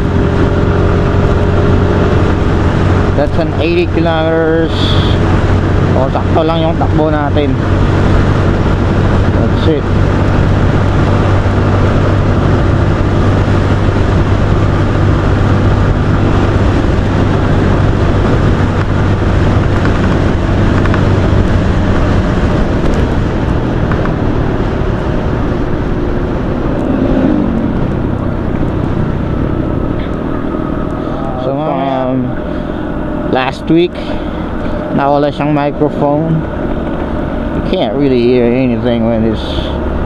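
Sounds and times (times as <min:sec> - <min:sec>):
wind noise: 0:00.0 - 0:39.1
motorcycle engine hum: 0:00.0 - 0:40.0.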